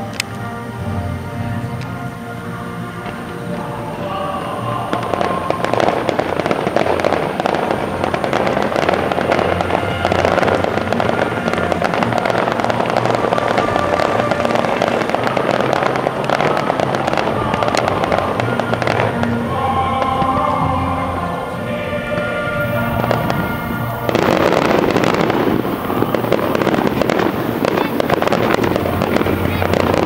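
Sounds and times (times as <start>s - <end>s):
fireworks bursting and crackling: 0.0s - 30.0s
music playing: 0.0s - 30.0s.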